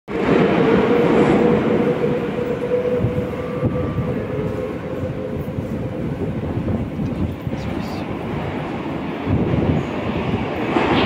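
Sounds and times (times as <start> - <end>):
train rumbling with whine: 0.1 - 11.0.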